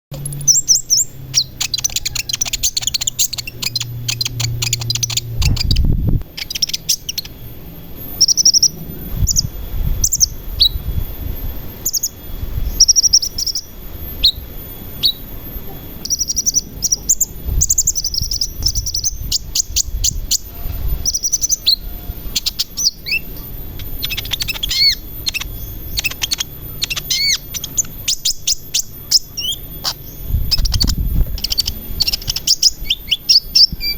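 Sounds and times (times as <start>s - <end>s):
bird chirps and trills: 0.1s - 33.9s.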